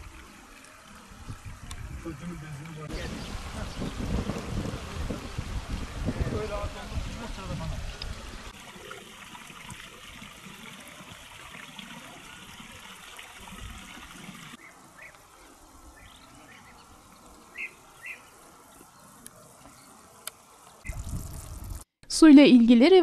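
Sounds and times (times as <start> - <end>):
water trickling over stones: 0.0 - 21.9.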